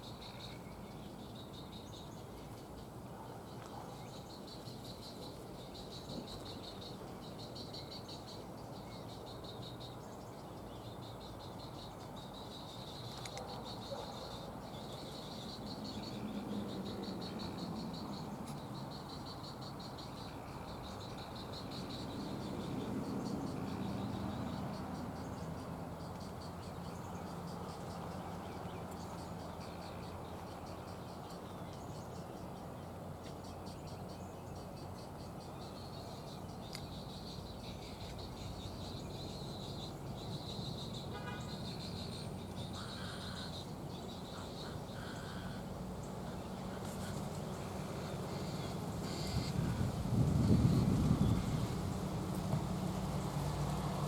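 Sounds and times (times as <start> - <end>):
insects buzzing trills: 0.0 - 54.0.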